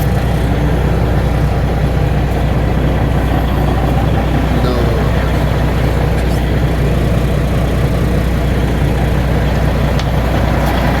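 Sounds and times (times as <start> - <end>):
diesel engine droning steadily: 0.0 - 11.0.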